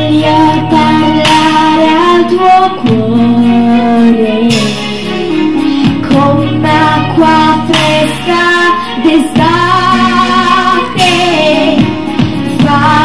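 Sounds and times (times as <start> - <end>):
girl singing with vibrato: 0.0 - 13.0
instrumental backing music: 0.0 - 13.0.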